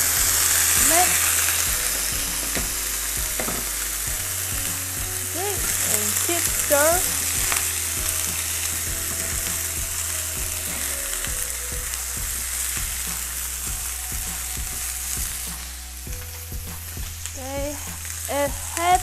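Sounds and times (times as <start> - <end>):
meat sizzling in hot oil: 0.0 - 15.9.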